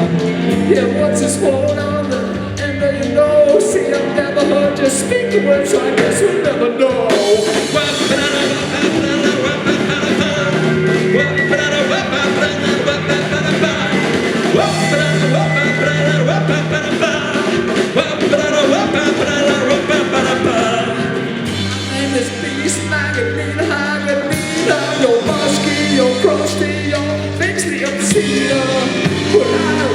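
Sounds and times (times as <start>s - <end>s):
live rock band playing: 0.0s - 29.9s.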